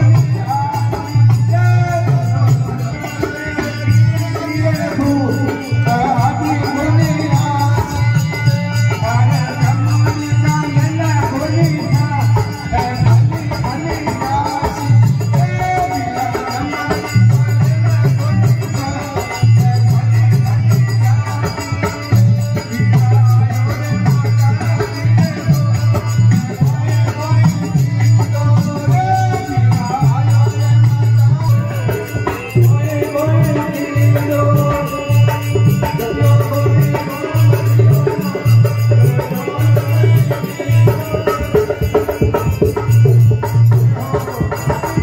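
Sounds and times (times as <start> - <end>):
folk drums: 0.0 - 45.0.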